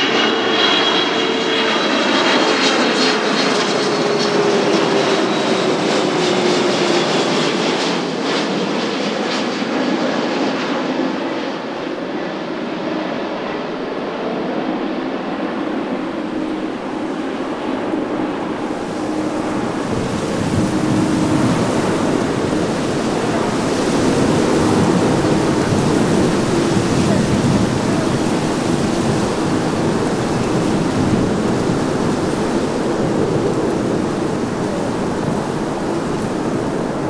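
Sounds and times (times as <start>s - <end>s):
jet airliner engine rush: 0.0s - 37.0s.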